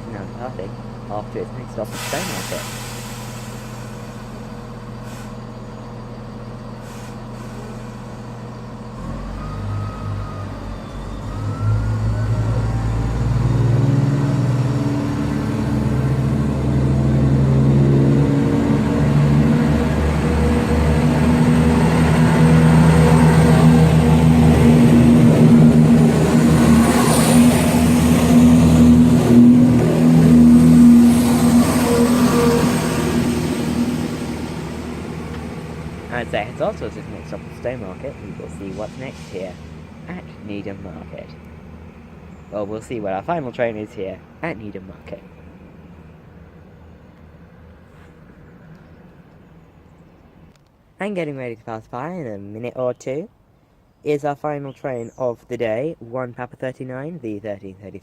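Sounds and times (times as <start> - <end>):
diesel train engine drone: 0.0 - 51.0.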